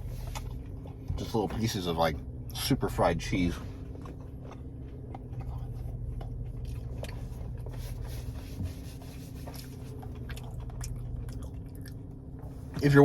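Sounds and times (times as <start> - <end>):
man chewing crunchy food: 0.0 - 12.6
low hum: 0.0 - 13.0.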